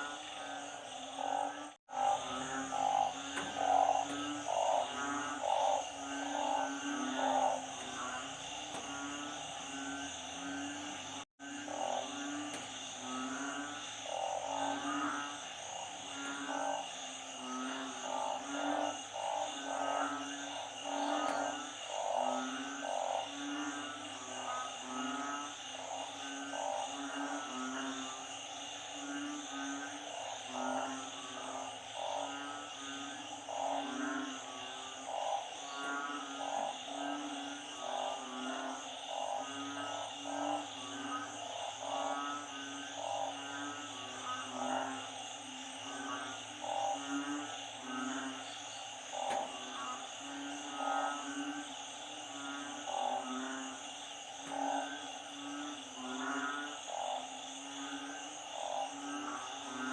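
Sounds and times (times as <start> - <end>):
frogs calling: 0.0 - 59.9.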